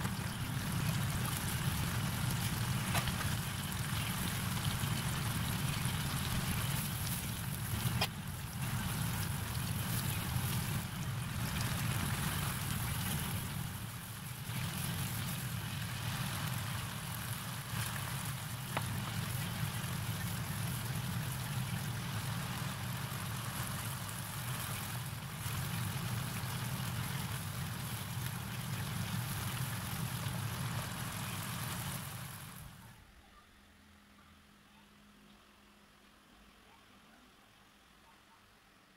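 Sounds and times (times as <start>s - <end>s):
low hum: 0.0s - 38.6s.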